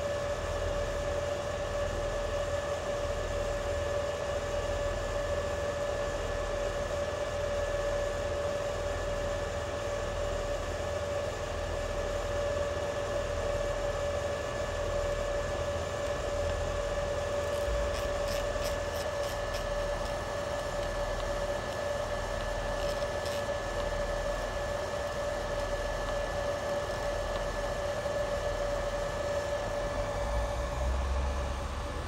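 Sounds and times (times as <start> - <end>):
welding machine fan whine: 0.0 - 32.0.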